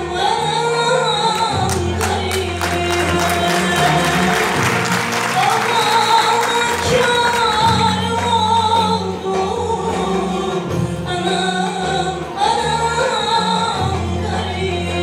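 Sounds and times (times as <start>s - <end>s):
woman singing folk melody: 0.0s - 4.6s, 5.4s - 15.0s
folk instrument ensemble: 0.0s - 15.0s.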